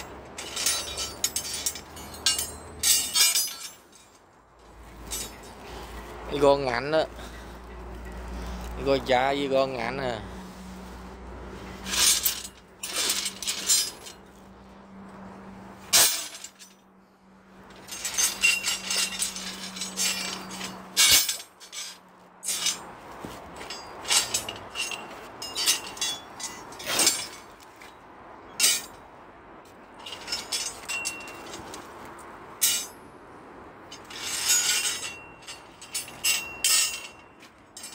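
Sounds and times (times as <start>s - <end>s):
steel rebar clanking: 0.0s - 10.2s, 10.8s - 14.5s, 15.1s - 16.9s, 17.6s - 29.0s, 29.9s - 33.1s, 33.8s - 37.9s.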